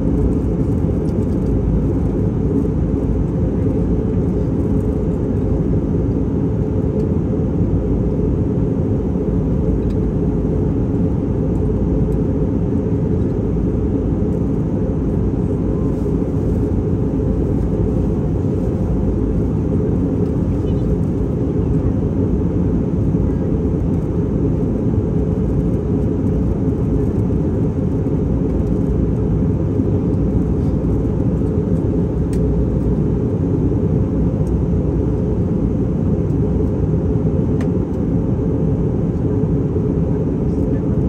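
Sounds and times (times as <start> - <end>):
airliner cabin drone: 0.0 - 41.0.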